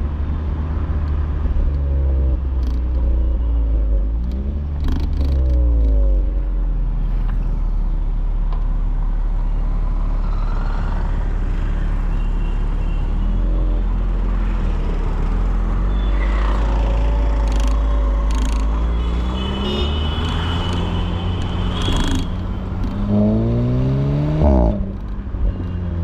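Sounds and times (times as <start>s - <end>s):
car engine and exhaust: 0.0s - 26.0s
road noise: 0.0s - 26.0s.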